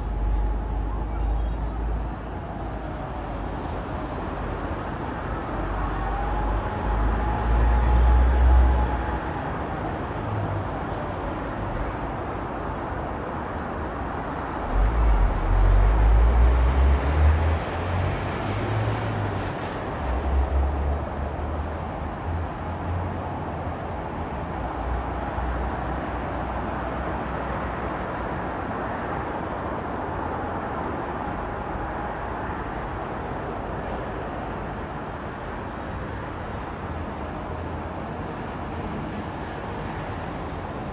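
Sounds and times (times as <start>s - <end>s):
distant traffic noise: 0.0s - 40.9s.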